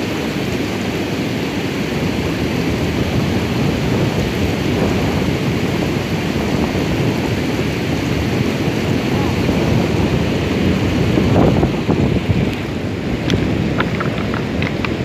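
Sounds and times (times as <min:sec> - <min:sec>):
whitewater river rapids rushing: 0:00.0 - 0:15.0.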